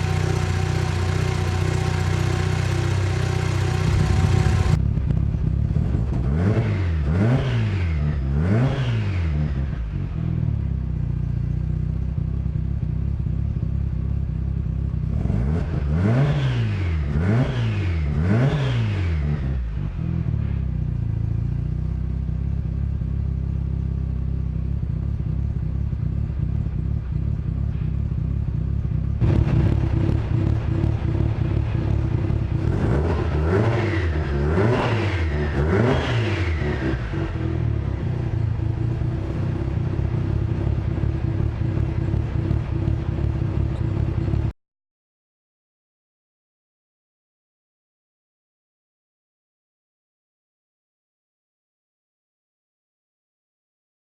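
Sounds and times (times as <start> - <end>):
rotary engine idling and revving: 0.0 - 44.5.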